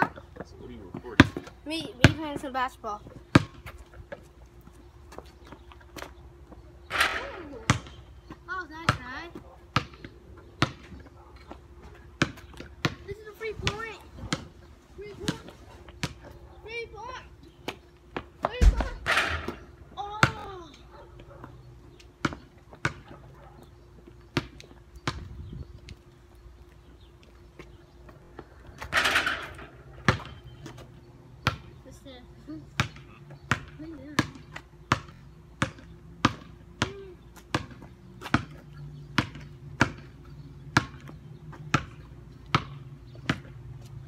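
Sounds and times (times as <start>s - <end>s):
basketball bouncing on pavement: 0.0s - 44.0s.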